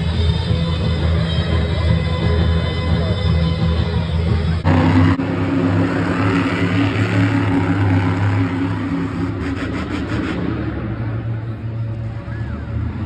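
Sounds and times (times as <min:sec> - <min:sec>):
loud truck engine running: 0:00.0 - 0:13.0.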